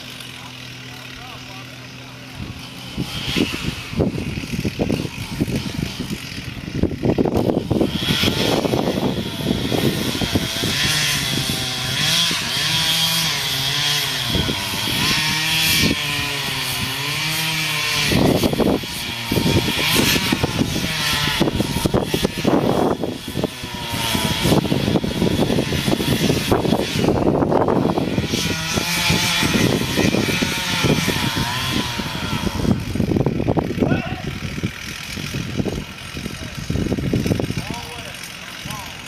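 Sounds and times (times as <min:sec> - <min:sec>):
chainsaw engine running hard: 0:00.0 - 0:39.0.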